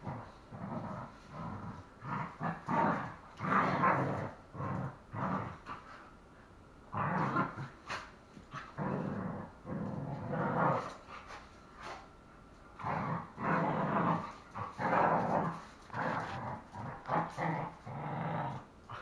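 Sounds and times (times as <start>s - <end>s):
dogs growling: 0.0s - 6.1s, 6.9s - 11.1s, 12.8s - 19.0s.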